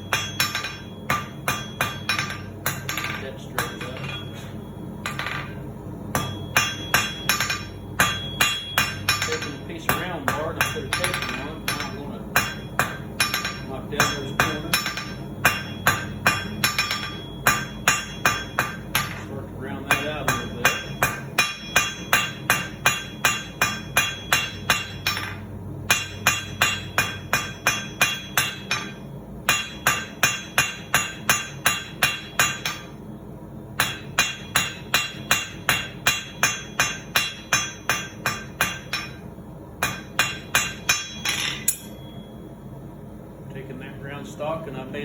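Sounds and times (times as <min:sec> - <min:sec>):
hammer striking steel on anvil: 0:00.0 - 0:33.0, 0:33.8 - 0:42.5.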